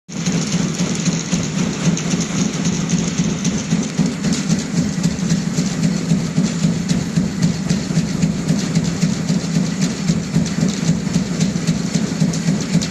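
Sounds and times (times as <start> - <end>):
fast uneven clattering rattle: 0.1 - 12.9
machinery low hum: 0.1 - 12.9.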